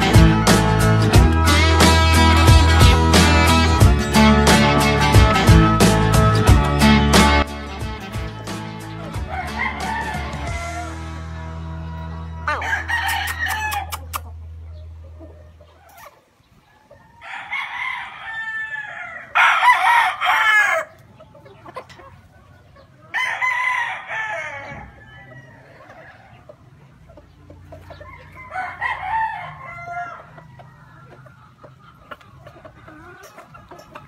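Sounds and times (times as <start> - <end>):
roosters crowing: 0.0 - 34.0.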